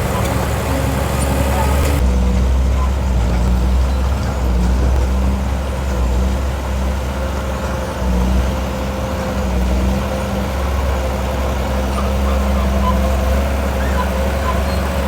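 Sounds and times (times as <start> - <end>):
heavy diesel engine under load: 0.0 - 15.0.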